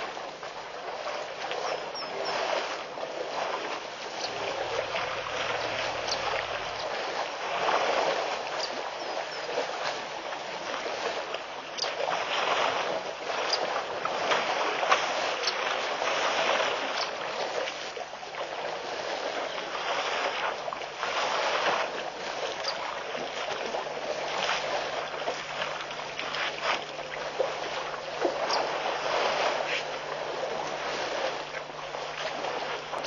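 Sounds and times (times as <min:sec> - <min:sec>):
water sloshing and splashing: 0:00.0 - 0:33.0.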